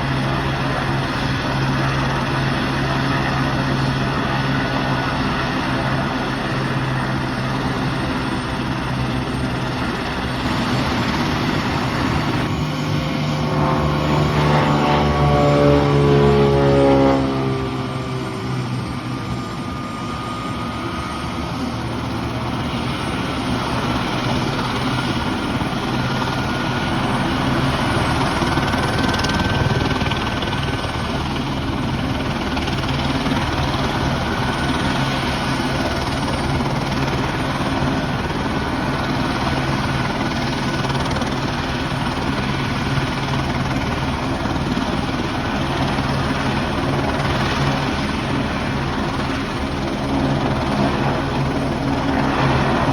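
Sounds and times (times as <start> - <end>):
helicopter turbine and rotor drone: 0.0 - 52.9.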